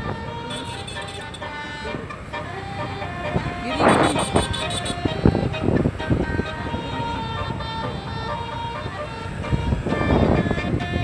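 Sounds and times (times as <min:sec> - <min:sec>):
engine and road noise: 0:00.0 - 0:11.0
bus multi-tone horn tune: 0:00.2 - 0:10.7.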